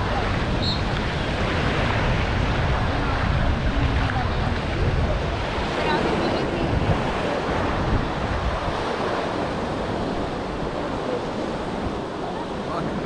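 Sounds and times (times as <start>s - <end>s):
sea waves washing onto beach: 0.0s - 13.0s
wind buffeting the microphone: 0.0s - 13.0s.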